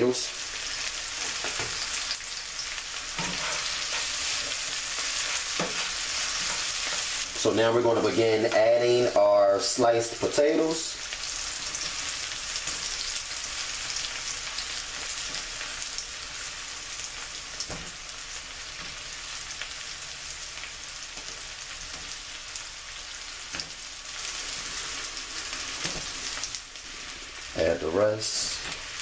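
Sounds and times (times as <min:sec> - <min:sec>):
potatoes sizzling in oil: 0:00.0 - 0:29.0.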